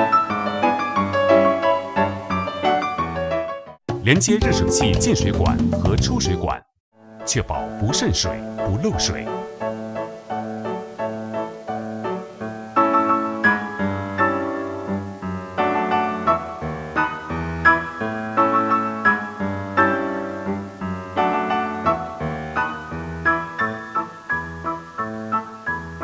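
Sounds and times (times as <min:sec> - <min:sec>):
piano music: 0:04.2 - 0:06.6, 0:07.3 - 0:26.0.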